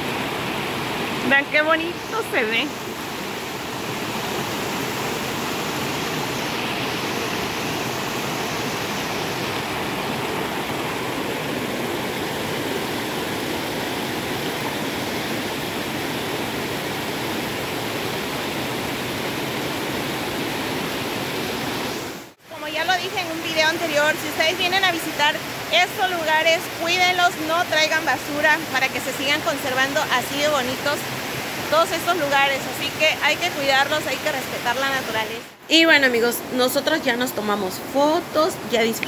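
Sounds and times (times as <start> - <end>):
stream rushing over stones: 0.0 - 39.0.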